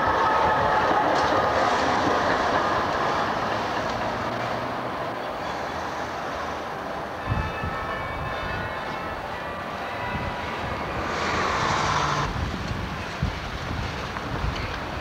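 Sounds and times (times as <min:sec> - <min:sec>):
tram wheels running on rails: 0:00.0 - 0:15.0.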